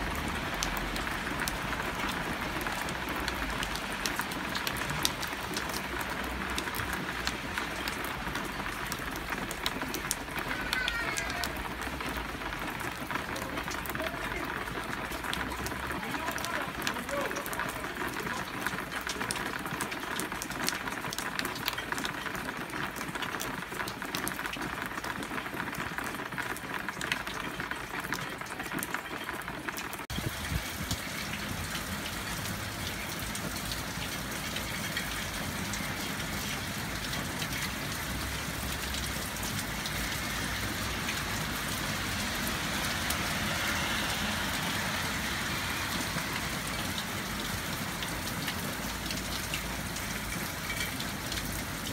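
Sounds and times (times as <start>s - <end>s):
heavy rain splashing: 0.0s - 51.9s.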